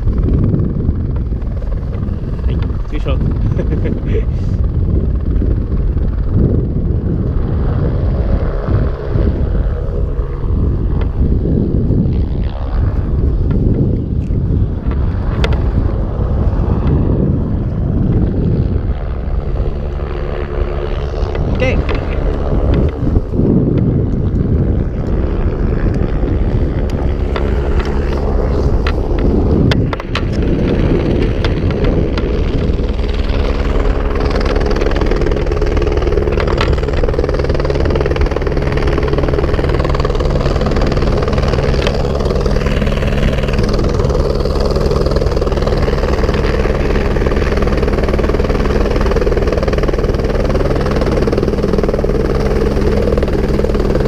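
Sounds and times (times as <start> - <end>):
helicopter rotor rumble: 0.0 - 54.0
wind noise on microphone: 0.0 - 54.0.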